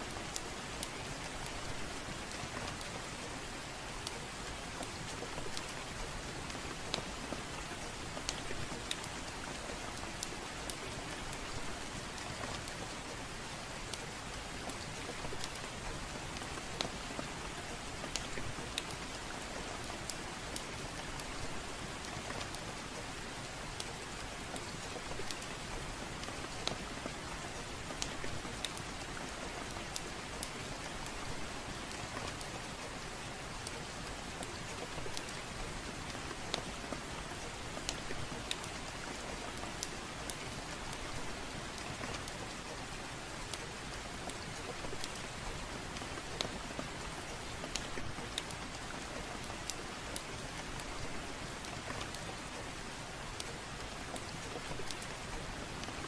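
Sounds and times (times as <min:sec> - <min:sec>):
steady soft rain: 0:00.0 - 0:56.0.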